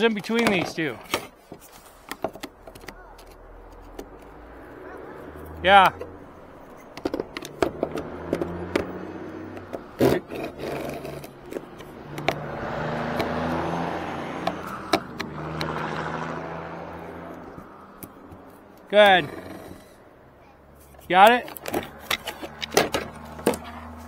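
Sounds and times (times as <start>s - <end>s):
vehicle passing: 1.8s - 24.0s.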